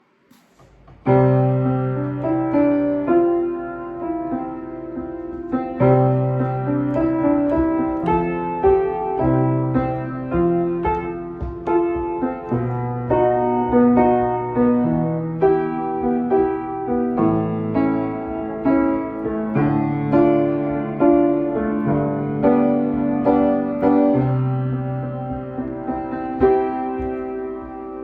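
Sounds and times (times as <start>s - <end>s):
piano playing chords: 0.0s - 28.0s.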